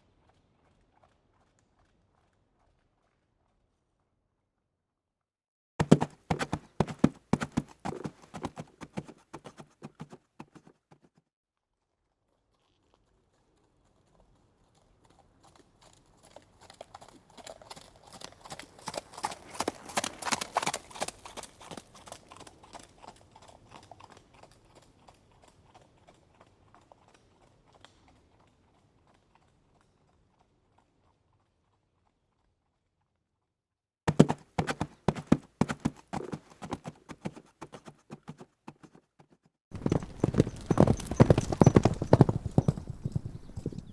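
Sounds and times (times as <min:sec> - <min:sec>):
horse hooves clip-clopping: 0:00.2 - 0:03.2, 0:05.8 - 0:11.1, 0:13.9 - 0:31.8, 0:34.1 - 0:39.1, 0:39.7 - 0:43.9.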